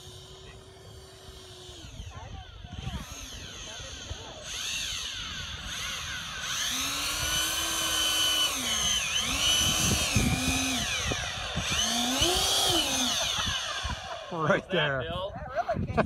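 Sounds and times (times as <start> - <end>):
model jet fans whining: 0.0 - 15.7.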